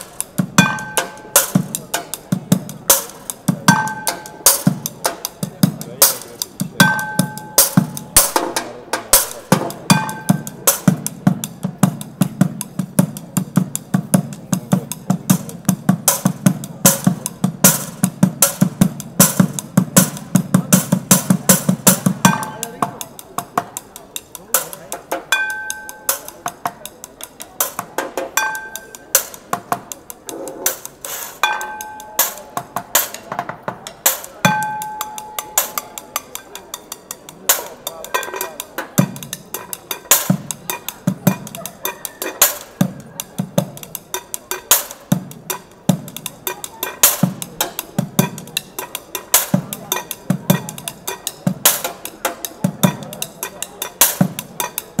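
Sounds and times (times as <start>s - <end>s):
rapid drumstick strikes: 0.0s - 55.0s.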